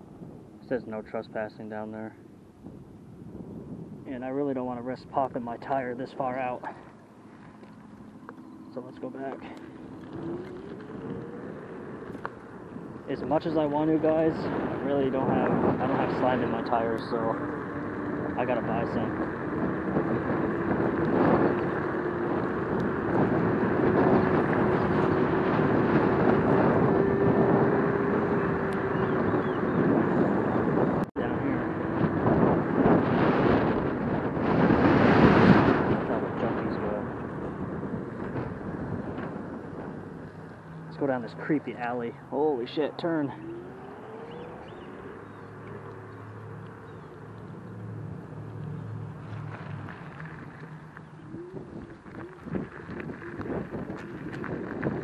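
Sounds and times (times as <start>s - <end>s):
wind and tyre noise: 0.0s - 55.0s
electric scooter motor tone: 7.0s - 14.9s, 15.5s - 36.0s, 36.6s - 55.0s.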